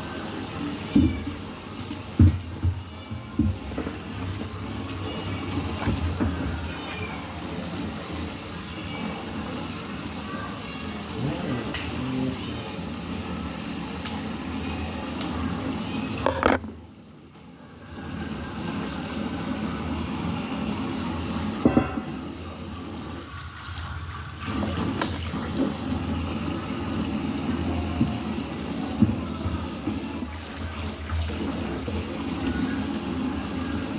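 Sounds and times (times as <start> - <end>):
tap water running into sink: 0.0 - 16.8, 18.0 - 33.9.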